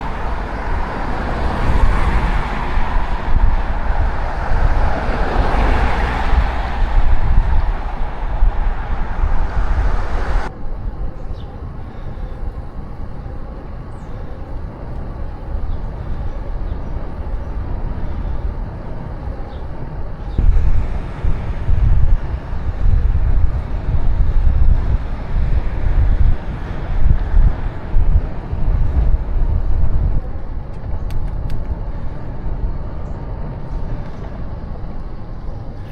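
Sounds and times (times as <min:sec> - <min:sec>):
bicycle tyre noise on road: 0:00.0 - 0:35.9
wind buffeting microphone: 0:00.0 - 0:35.9.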